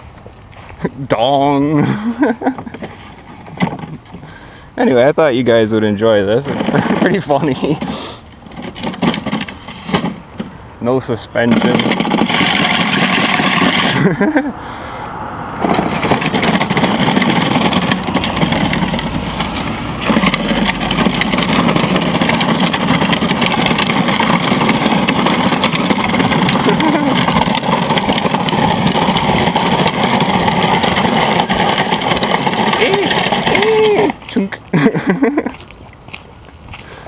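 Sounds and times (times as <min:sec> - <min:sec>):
toy truck rolling rumble: 0:00.0 - 0:37.0.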